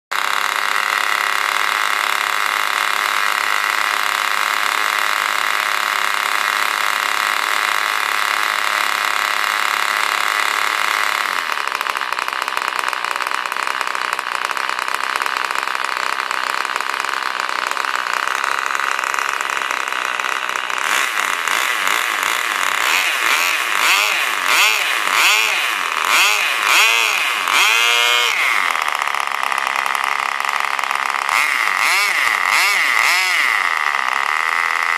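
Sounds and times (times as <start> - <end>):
model plane engine whining: 0.2 - 34.9.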